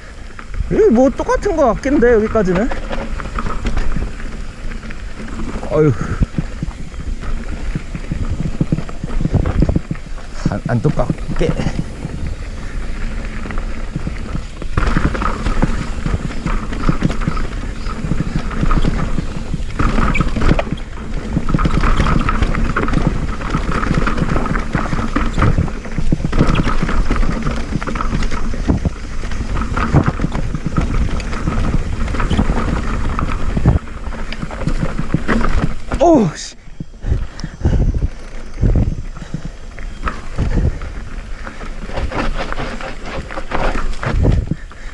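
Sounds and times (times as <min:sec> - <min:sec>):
bike rattling over rocks: 0:00.0 - 0:44.9
tyres rushing on dirt: 0:00.0 - 0:44.9.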